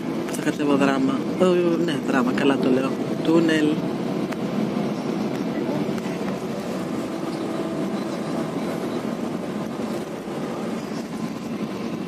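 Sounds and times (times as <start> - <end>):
coach engine and road noise: 0.0 - 12.0.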